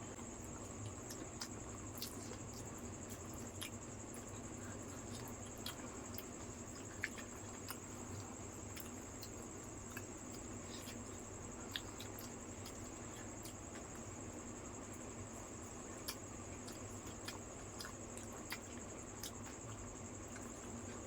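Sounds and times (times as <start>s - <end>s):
crickets trilling: 0.0s - 21.0s
wet squishes of eating: 0.3s - 21.0s.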